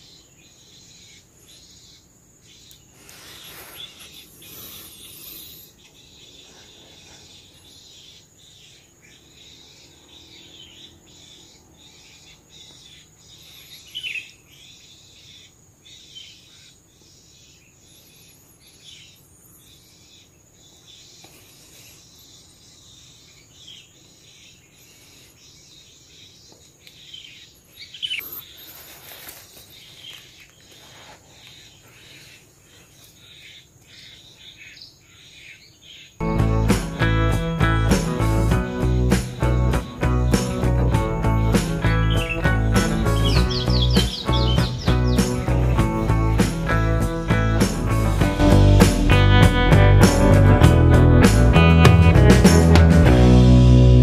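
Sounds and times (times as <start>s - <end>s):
bird chirps and calls: 0.0s - 36.2s, 39.1s - 47.8s
insect hum: 0.0s - 51.6s.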